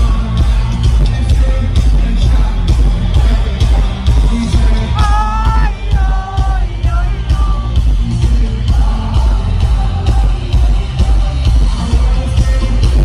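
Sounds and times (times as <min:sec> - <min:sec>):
heavy bass beat: 0:00.0 - 0:13.0
live band playing loud: 0:00.0 - 0:13.0.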